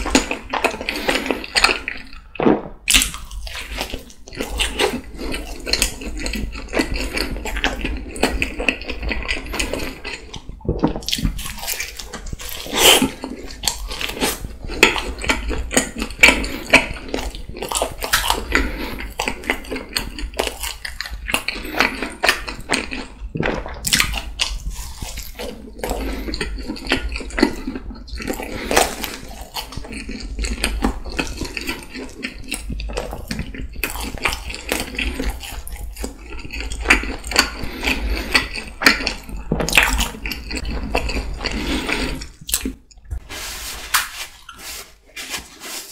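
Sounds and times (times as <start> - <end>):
chewing pizza crust: 0.0 - 45.9.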